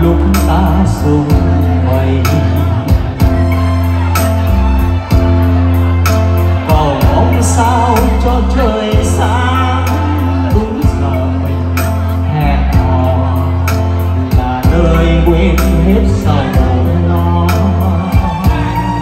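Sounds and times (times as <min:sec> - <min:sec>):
man singing into a microphone: 0:00.0 - 0:04.5, 0:06.3 - 0:19.0
bass: 0:00.0 - 0:19.0
electronic keyboard: 0:00.0 - 0:19.0.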